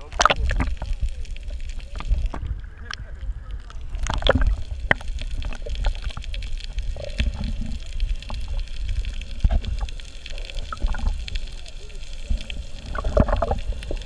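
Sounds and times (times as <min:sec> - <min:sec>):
underwater gurgling and bubbling: 0:00.0 - 0:14.0.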